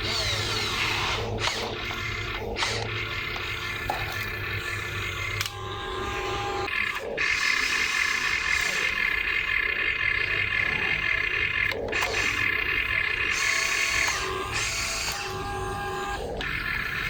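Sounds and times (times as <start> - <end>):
small electric motors whirring: 0.0 - 17.0.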